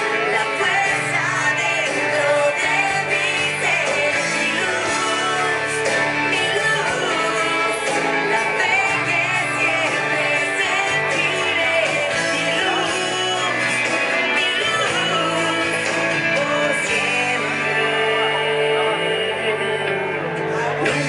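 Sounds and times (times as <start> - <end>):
song with sung lead vocal: 0.0 - 21.0.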